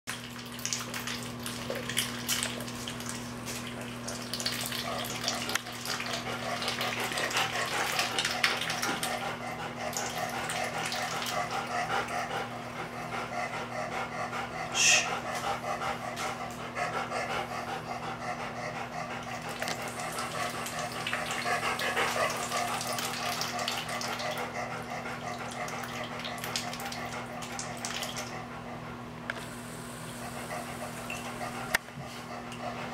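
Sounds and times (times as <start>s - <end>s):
dog panting: 4.8s - 29.2s, 30.2s - 32.9s.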